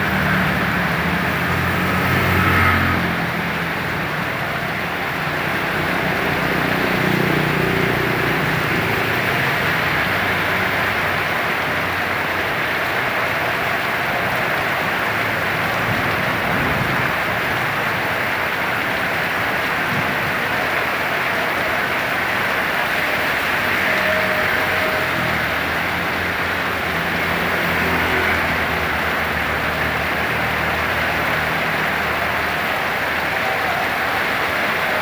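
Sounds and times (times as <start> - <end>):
heavy rain: 0.0 - 35.0
road traffic: 0.0 - 35.0
wind: 0.0 - 35.0.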